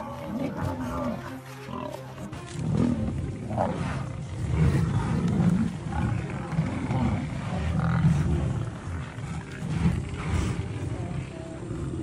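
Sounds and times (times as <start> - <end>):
lions growling and snarling: 0.0 - 12.0.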